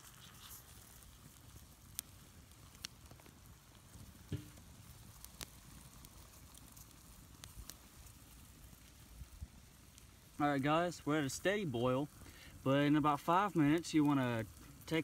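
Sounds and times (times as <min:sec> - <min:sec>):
campfire crackling and popping: 0:00.0 - 0:15.0
water boiling in a pot: 0:00.0 - 0:15.0.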